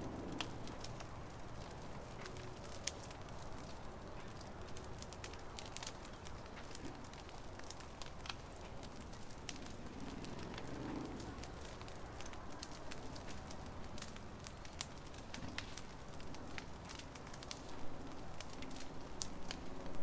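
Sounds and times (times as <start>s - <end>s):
bonfire crackling and popping: 0.0s - 20.0s
fire hissing: 0.0s - 20.0s.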